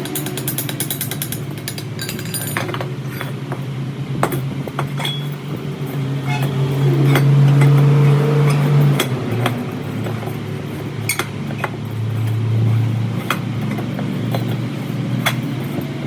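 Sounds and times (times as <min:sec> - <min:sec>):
metal tools clinking and tapping: 0:00.0 - 0:16.0.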